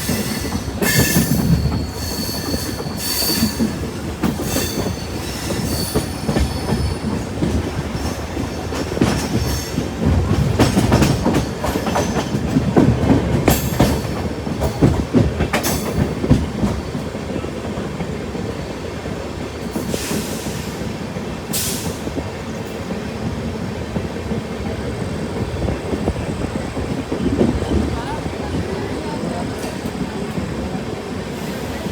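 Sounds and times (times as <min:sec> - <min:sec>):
train rumbling on rails: 0:00.0 - 0:31.9.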